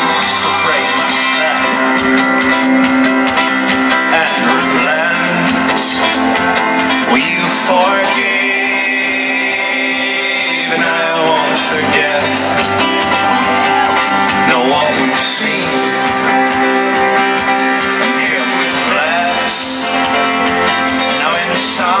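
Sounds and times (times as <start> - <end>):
live folk-rock band: 0.0 - 22.0
strummed acoustic guitar: 0.0 - 22.0.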